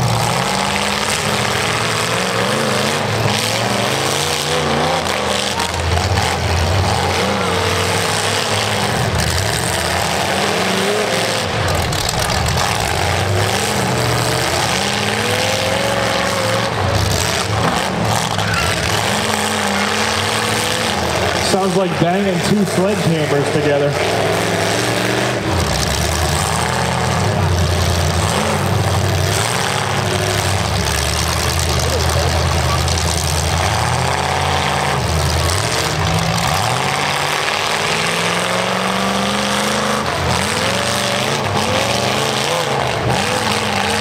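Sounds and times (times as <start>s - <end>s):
car engines revving hard: 0.0s - 44.0s
wheels spinning in dirt: 0.0s - 44.0s.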